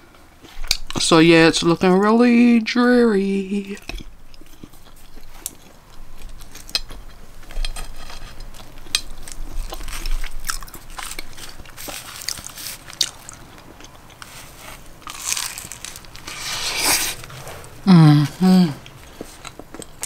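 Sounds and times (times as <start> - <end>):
person chewing: 0.4 - 1.0, 3.3 - 20.0.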